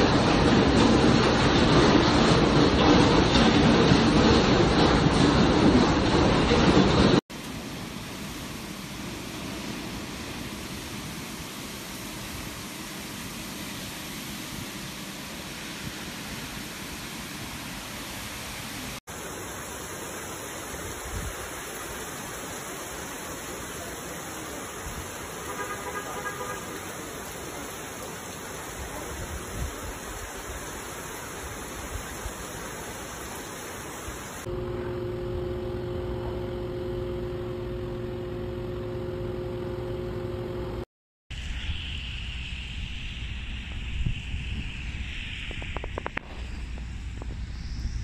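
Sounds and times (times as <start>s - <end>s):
heavy rain and wind: 0.0s - 34.9s, 41.3s - 48.0s.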